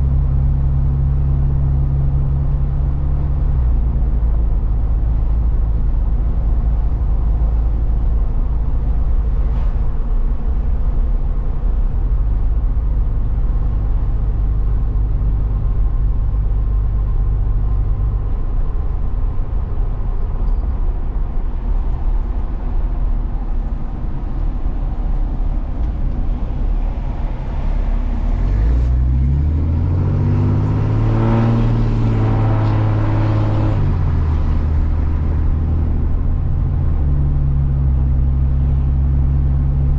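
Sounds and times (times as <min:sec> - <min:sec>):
truck engine inside cab: 0:00.0 - 0:39.9.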